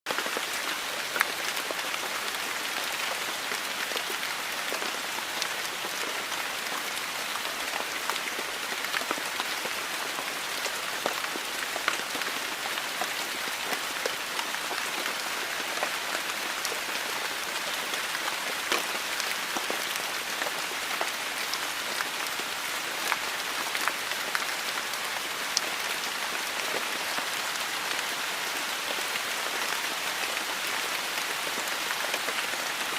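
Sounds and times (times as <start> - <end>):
rain falling: 0.1 - 32.9.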